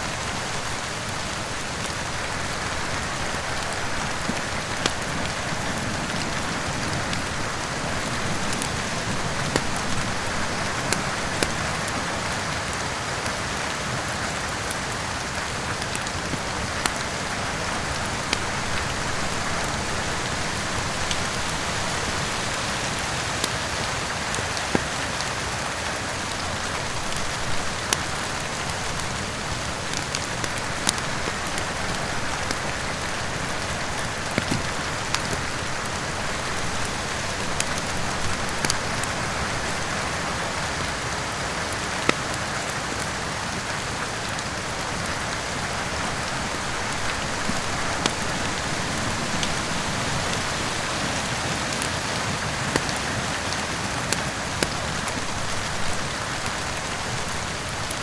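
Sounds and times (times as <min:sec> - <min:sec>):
heavy rain hissing: 0:00.0 - 0:58.0
wood fire crackling: 0:00.0 - 0:58.0.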